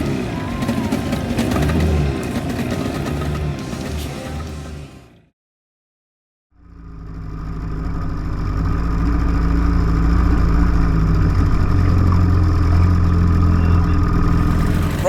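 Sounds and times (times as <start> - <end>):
outboard motor running: 0.0 - 5.2, 6.7 - 15.0.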